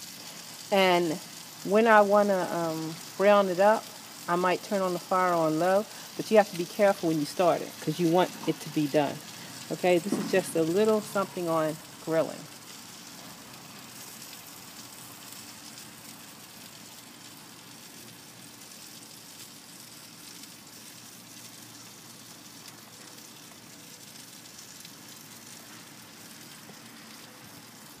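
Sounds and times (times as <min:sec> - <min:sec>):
chicken sizzling on a grill: 0:00.0 - 0:28.0.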